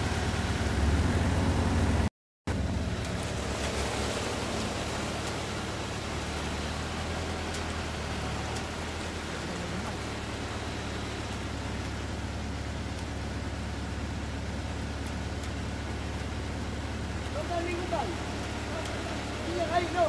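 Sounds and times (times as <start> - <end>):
pickup engine running low: 0.0 - 20.0
constant even hiss: 2.9 - 20.0.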